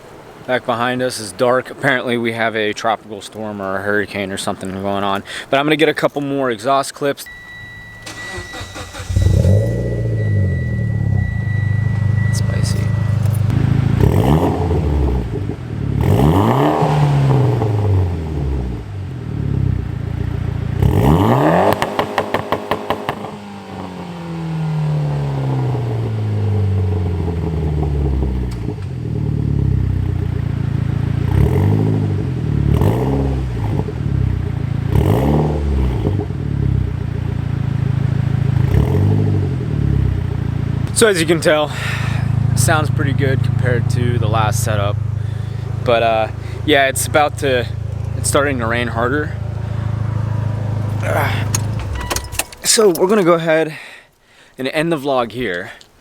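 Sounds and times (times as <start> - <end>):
car engine revving: 7.3 - 53.4.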